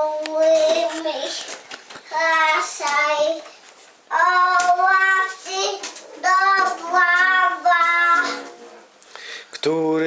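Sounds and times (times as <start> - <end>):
toddler singing: 0.0 - 8.6.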